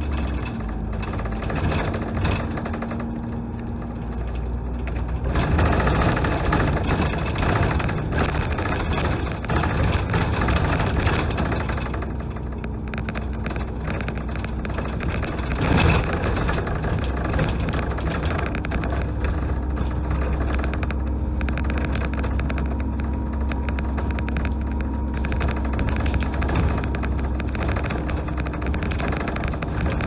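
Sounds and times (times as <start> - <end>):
bus body and windows rattling: 0.0 - 30.0
bus engine drone: 0.0 - 30.0
bus jolt: 0.0 - 30.0.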